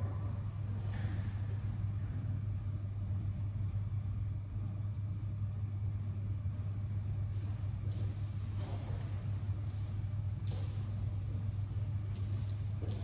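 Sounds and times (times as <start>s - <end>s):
low hum of room tone: 0.0s - 13.0s.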